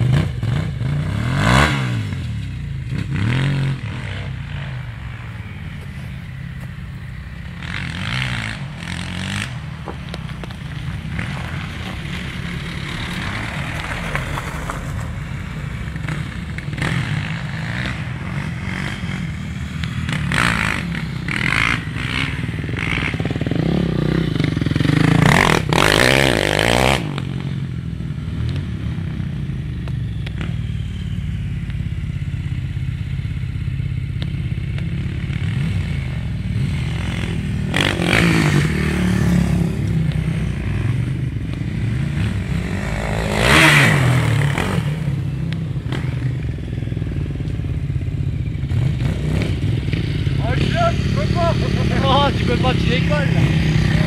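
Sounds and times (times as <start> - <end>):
quad bike engine revving: 0.0 - 5.8, 7.3 - 31.0, 31.6 - 54.0
dirt bike engine running: 0.0 - 54.0.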